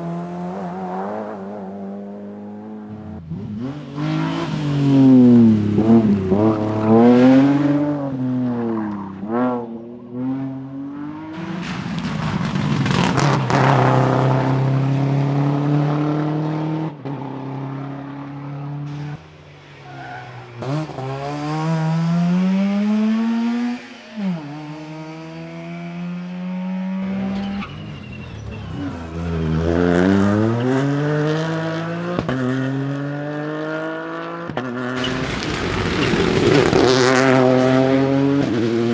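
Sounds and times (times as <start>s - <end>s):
rally car engines at full throttle: 0.0s - 38.9s.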